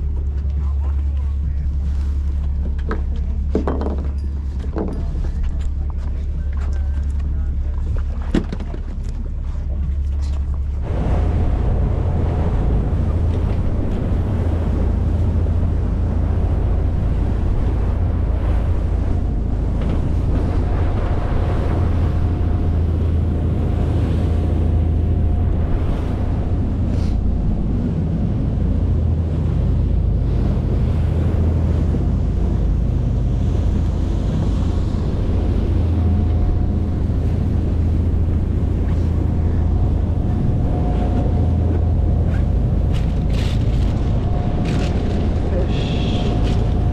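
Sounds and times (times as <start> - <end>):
boat engine droning: 0.0 - 46.9
water rushing past hull: 0.0 - 46.9
wind on microphone: 0.0 - 46.9.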